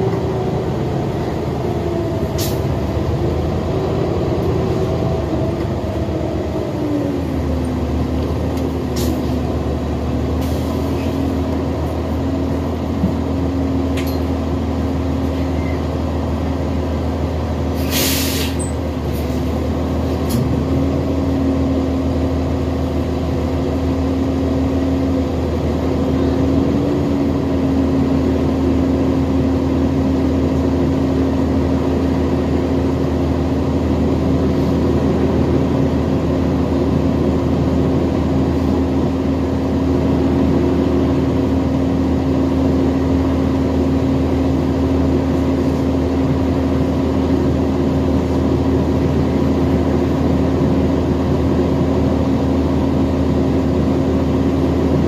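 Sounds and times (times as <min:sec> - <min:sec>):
bus engine drone with whine: 0:00.0 - 0:55.0.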